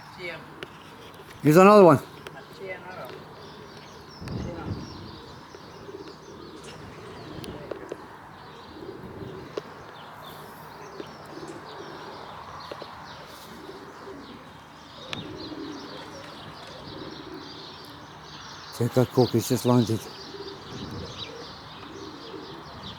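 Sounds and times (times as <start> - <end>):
pigeons cooing: 0.0 - 22.9
small birds chirping: 0.0 - 22.9.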